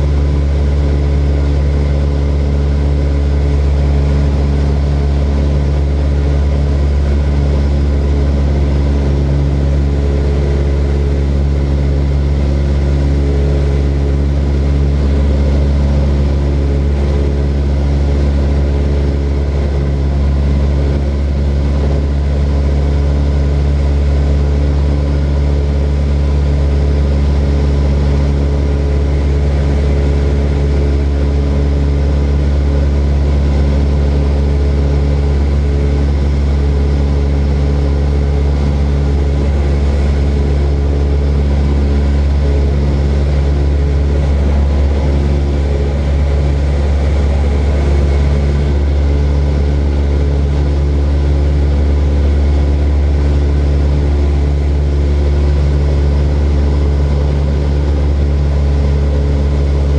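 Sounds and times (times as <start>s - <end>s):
propeller airplane engine drone: 0.0s - 59.9s.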